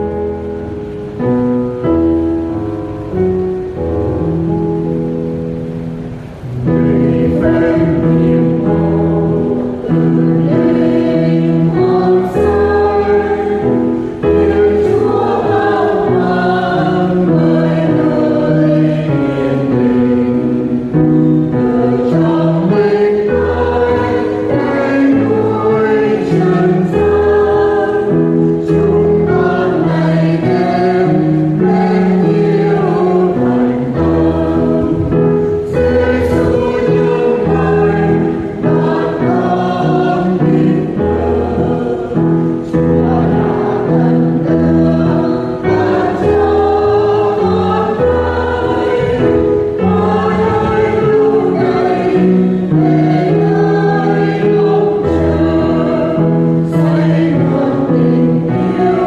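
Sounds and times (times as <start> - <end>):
choir singing a hymn: 0.0 - 59.0
instrumental accompaniment: 0.0 - 59.0.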